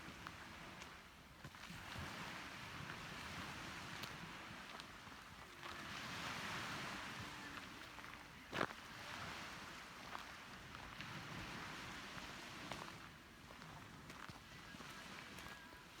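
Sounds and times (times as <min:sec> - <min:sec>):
wind and sea water rushing: 0:01.6 - 0:16.0.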